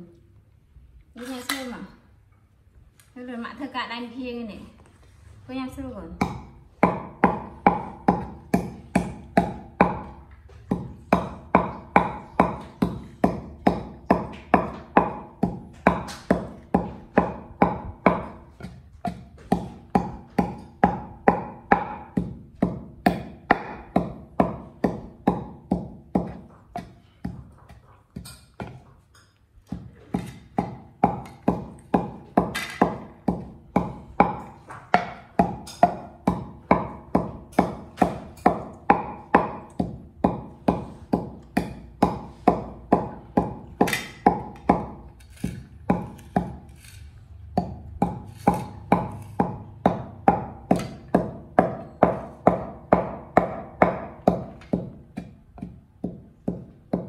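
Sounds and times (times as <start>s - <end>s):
pestle pounding in wooden mortar: 6.2s - 57.0s.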